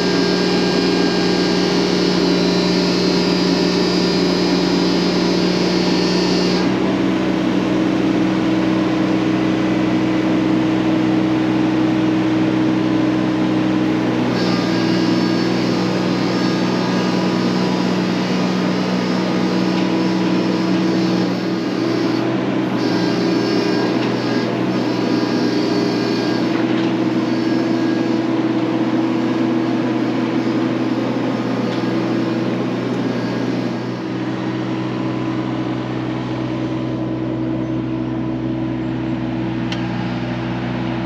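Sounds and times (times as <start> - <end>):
machine engine running: 0.0 - 41.0.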